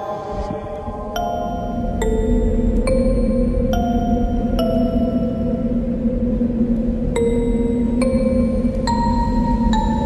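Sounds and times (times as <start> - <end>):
low steady drone: 0.0 - 10.0.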